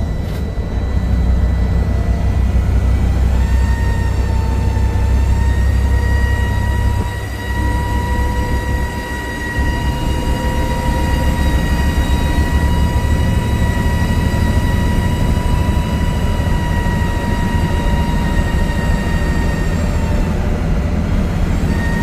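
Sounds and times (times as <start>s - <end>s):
engine and road rumble: 0.0s - 22.0s
high-pitched vehicle whine: 0.0s - 22.0s.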